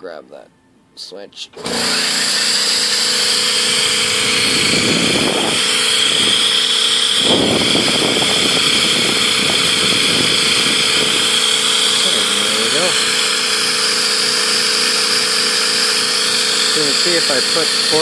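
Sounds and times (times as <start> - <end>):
turbine high whine: 1.5 - 18.0
air jets hissing: 1.6 - 18.0.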